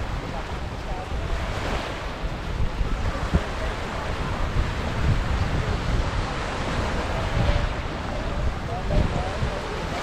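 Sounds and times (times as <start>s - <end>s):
sea waves: 0.0s - 10.0s
wind buffeting microphone: 0.0s - 10.0s.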